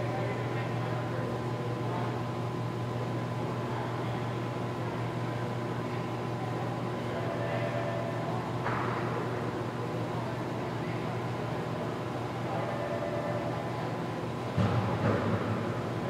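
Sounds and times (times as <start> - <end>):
low hum of machinery: 0.0 - 16.0.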